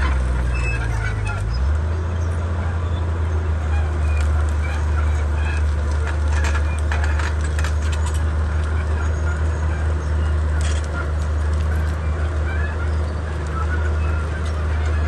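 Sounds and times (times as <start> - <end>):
bulldozer diesel engine drone: 0.0 - 15.0.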